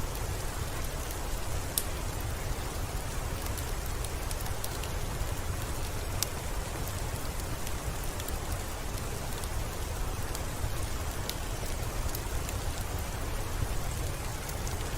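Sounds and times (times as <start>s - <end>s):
steady rain with drop ticks: 0.0s - 14.9s.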